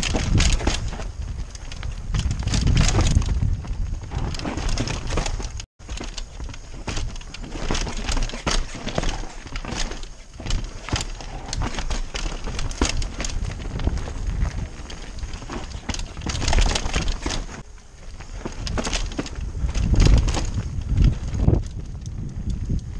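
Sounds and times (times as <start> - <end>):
bike clattering and rattling: 0.0 - 22.9
tyres crunching over stones: 0.0 - 22.9.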